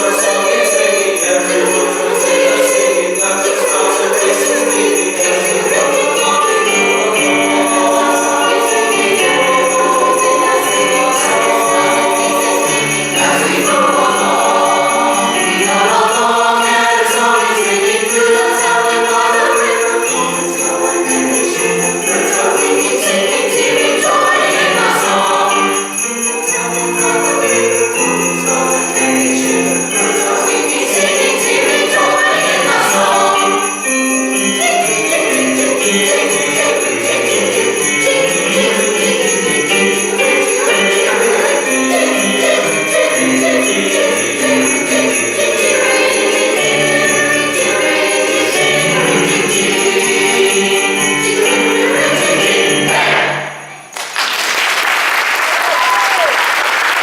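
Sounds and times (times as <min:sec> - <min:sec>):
piano accompaniment: 0:00.0 - 0:53.9
sleigh bells jingling: 0:00.0 - 0:53.9
mixed choir singing: 0:00.0 - 0:54.0.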